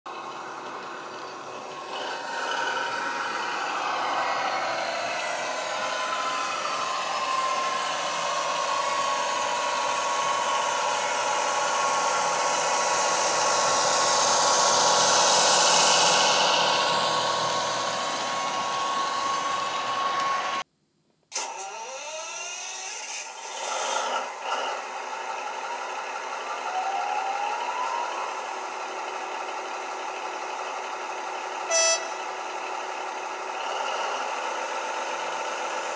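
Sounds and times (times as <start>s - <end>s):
simulated diesel engine whine: 0.1s - 20.7s, 21.4s - 35.9s.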